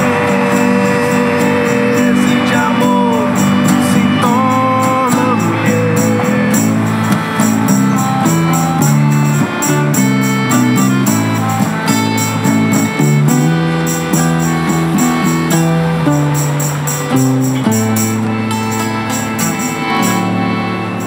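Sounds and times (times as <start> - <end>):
accordion chords: 0.0 - 21.0
strummed acoustic guitar: 0.0 - 21.0
tambourine jingling: 0.0 - 21.0.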